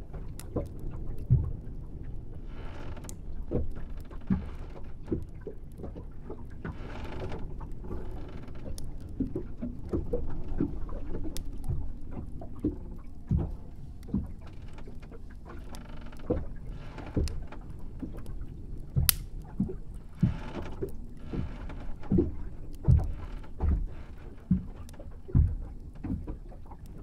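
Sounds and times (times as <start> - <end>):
water swishes: 0.0 - 27.0
water knocking against boat hull: 3.1 - 27.0.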